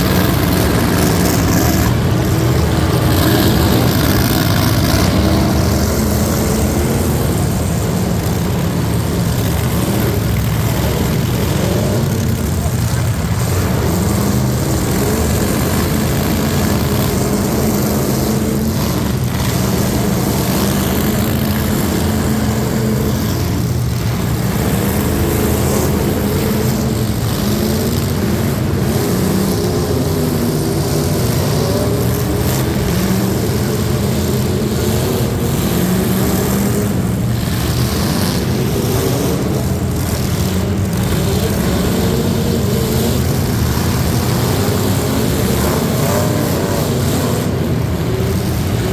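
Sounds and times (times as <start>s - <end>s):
heavy rushing noise: 0.0s - 48.9s
truck engine droning: 0.0s - 48.9s.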